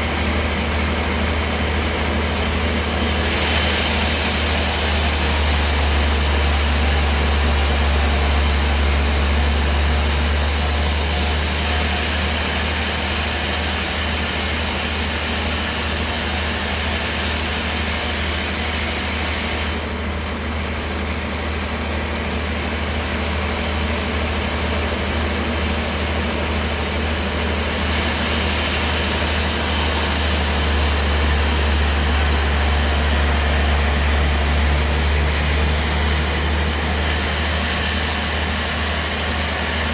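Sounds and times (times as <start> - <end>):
saw hiss cutting wood: 0.0 - 20.2, 25.8 - 39.9
bandsaw motor hum: 0.0 - 39.9.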